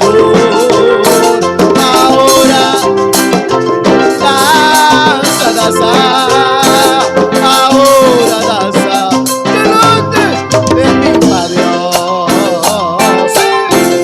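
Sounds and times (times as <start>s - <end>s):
maracas shaking: 0.0s - 14.0s
salsa music: 0.0s - 14.0s.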